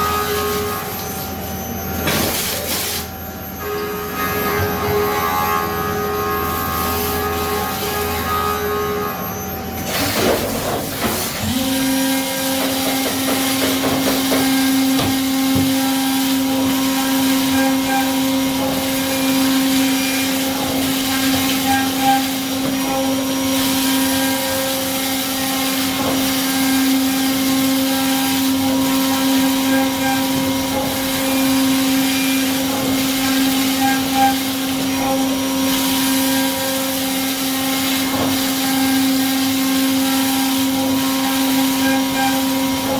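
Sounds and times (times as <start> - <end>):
milling machine noise: 0.0 - 42.9
spindle high-pitched whine: 0.0 - 42.9.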